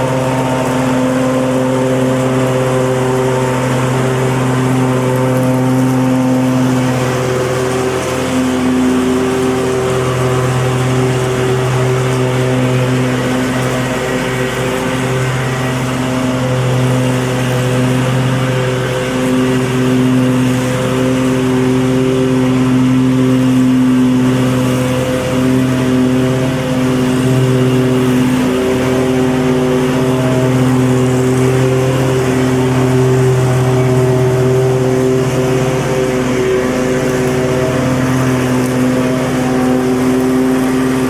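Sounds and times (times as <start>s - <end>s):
lawn mower engine running: 0.0s - 41.0s.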